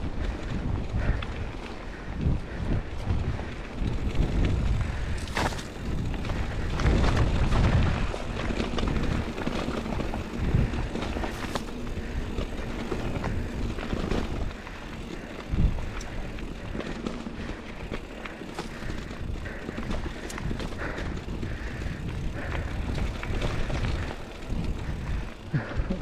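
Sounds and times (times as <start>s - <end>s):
bike tyres rattling over stones: 0.0s - 26.0s
wind rumbling on microphone: 0.0s - 26.0s.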